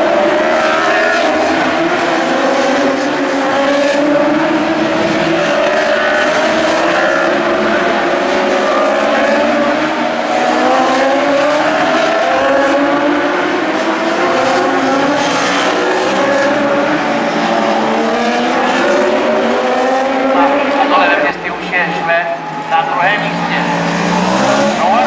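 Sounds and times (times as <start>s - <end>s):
motorcycles at full throttle: 0.0s - 25.0s.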